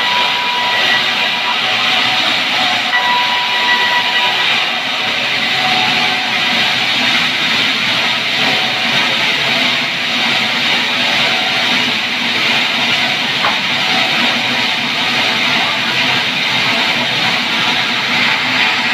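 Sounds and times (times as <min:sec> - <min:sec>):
band saw running: 0:00.0 - 0:18.9.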